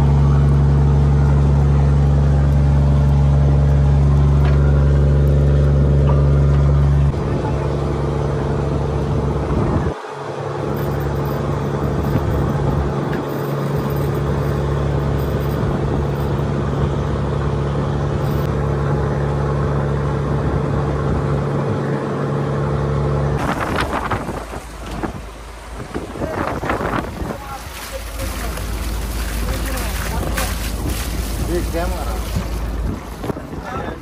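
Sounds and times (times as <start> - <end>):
boat engine deep hum: 0.0 - 34.0.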